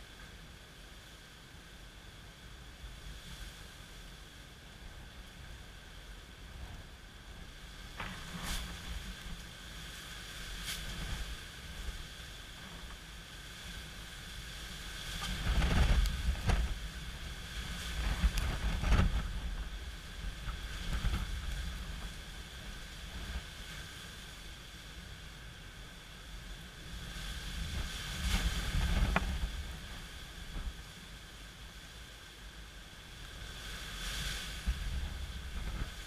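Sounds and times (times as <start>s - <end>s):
steady hiss of rain: 0.0s - 36.0s
strong gusty wind: 2.3s - 36.0s.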